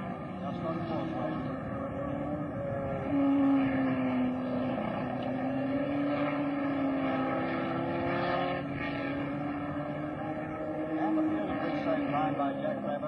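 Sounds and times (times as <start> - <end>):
racing car engine high revs: 0.0 - 13.0.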